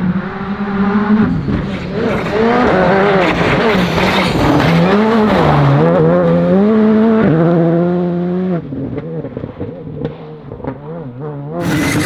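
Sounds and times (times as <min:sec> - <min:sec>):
rally car engine revving hard: 0:00.0 - 0:12.0.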